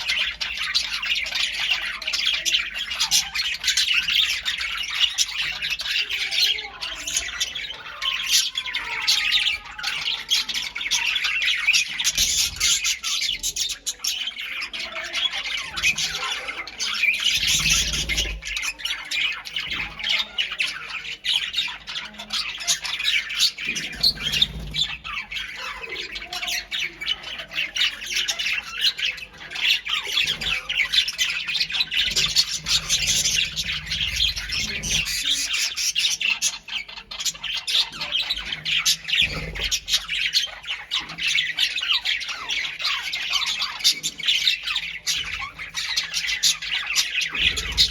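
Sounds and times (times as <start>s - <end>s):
parrots chattering and squawking: 0.0s - 47.9s.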